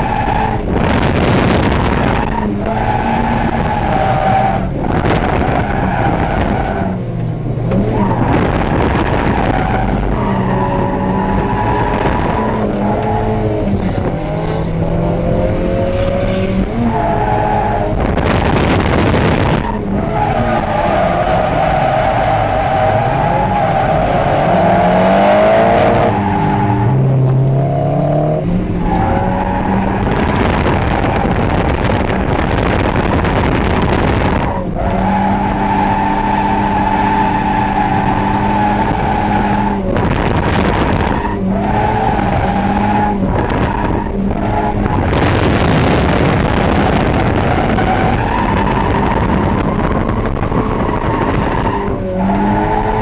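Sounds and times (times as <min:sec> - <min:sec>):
car engine at high revs: 0:00.0 - 0:53.0.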